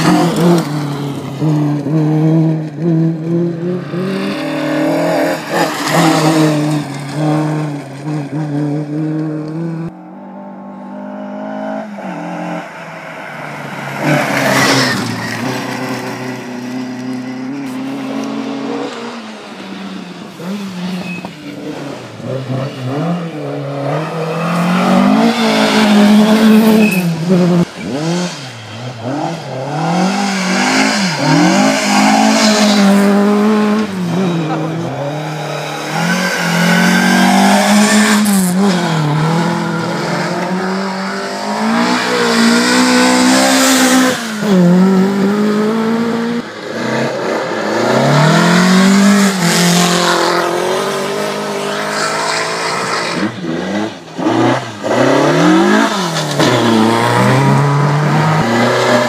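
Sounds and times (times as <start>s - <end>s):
rally cars passing at speed: 0.0s - 59.0s.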